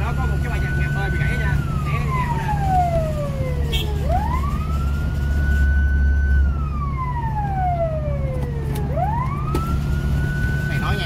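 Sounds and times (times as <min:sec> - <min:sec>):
fire engine siren wailing: 0:00.0 - 0:11.0.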